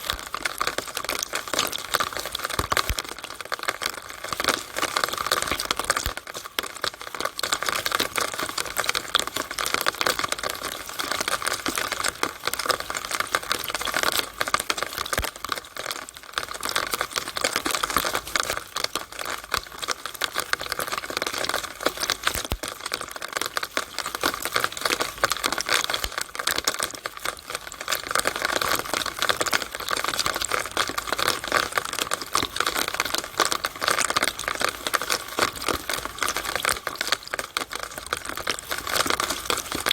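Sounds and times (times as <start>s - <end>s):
rainwater running down downspout: 0.0s - 39.9s.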